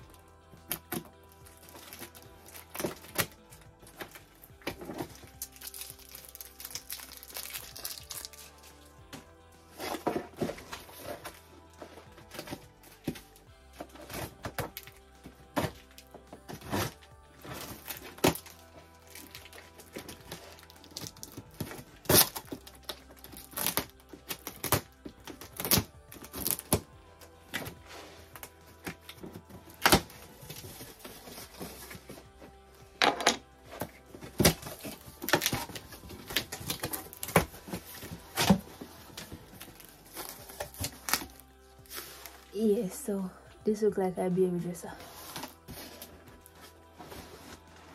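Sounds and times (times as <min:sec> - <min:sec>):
box being unpacked: 0:00.0 - 0:42.5, 0:45.0 - 0:47.9
faint background music: 0:00.0 - 0:47.9.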